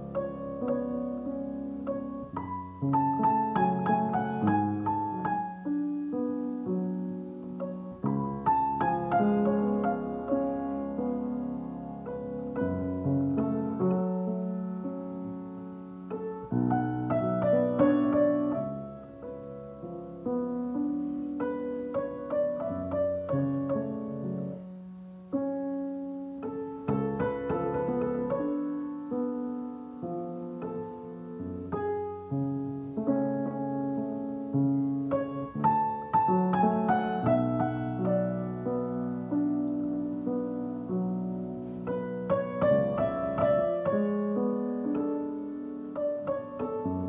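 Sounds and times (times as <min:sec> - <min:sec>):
slow solo piano piece: 0:00.0 - 0:47.0.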